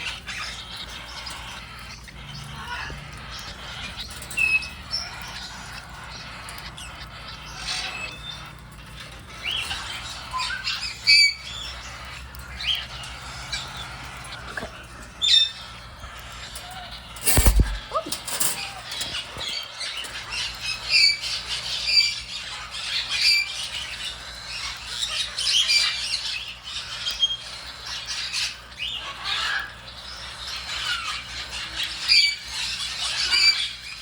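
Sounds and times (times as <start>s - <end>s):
cockatiels squawking: 0.0s - 34.0s.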